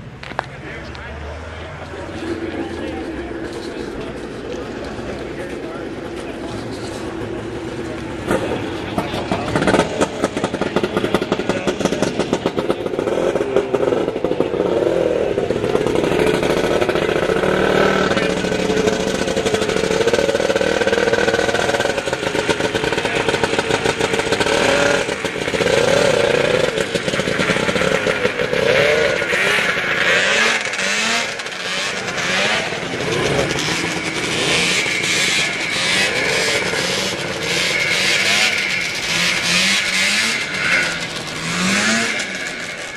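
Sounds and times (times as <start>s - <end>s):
snowmobile engines revving: 0.0s - 42.9s.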